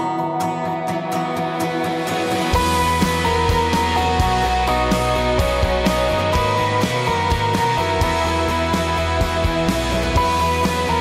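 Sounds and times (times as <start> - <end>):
background music over a beat: 0.0 - 11.0.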